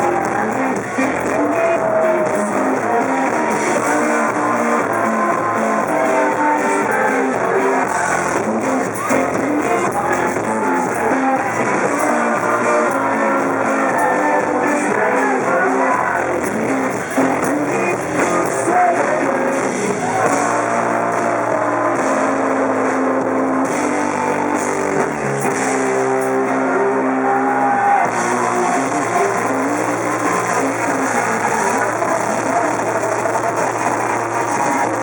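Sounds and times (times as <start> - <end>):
electric guitar: 0.0 - 35.0
live rock band playing: 0.0 - 35.0
person singing: 0.0 - 35.0.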